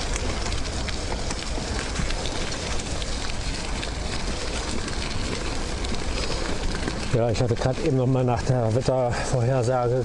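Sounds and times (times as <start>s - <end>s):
bicycle tyres crunching gravel: 0.0s - 10.0s.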